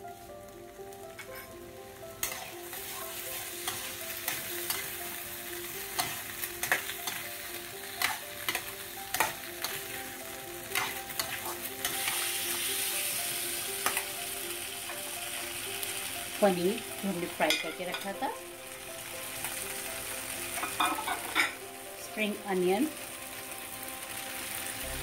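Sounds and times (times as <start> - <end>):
vegetables sizzling in pan: 0.0 - 25.0.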